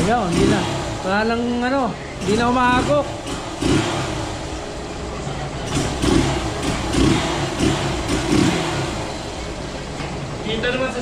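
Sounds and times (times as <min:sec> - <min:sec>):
motorcycle engine revving: 0:00.0 - 0:05.0, 0:05.6 - 0:10.0.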